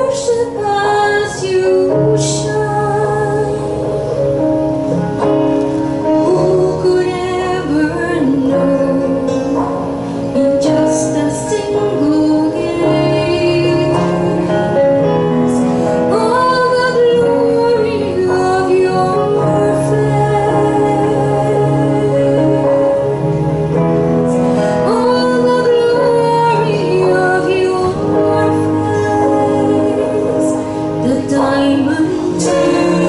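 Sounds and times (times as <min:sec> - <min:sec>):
woman singing into microphone: 0:00.0 - 0:04.2, 0:06.0 - 0:23.3, 0:24.4 - 0:33.0
instrumental accompaniment: 0:00.0 - 0:33.0.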